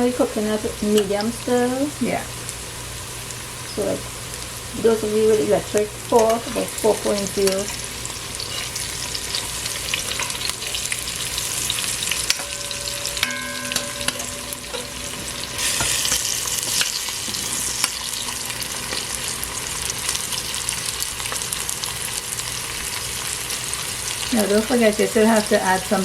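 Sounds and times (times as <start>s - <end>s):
okra sizzling in oil: 0.0s - 26.0s.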